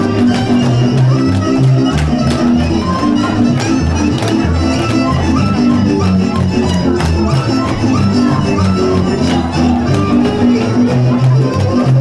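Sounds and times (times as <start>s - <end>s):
bass line: 0.0s - 12.0s
fiddle: 0.0s - 12.0s.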